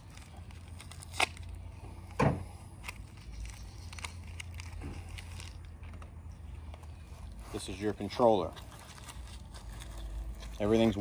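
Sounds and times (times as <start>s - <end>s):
plastic packaging crackling: 0.0s - 6.1s, 6.7s - 11.0s.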